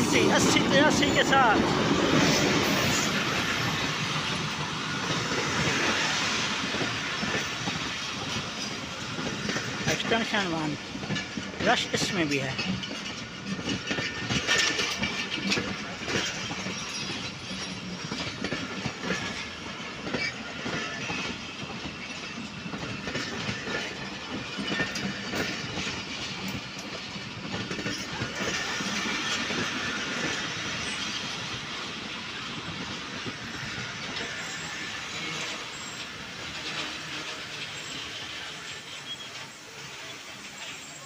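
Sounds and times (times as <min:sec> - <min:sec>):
train hiss: 0:00.0 - 0:13.2, 0:16.0 - 0:41.0
train running rumble: 0:00.0 - 0:41.0
train wheels clicking over rail joints: 0:00.0 - 0:41.0.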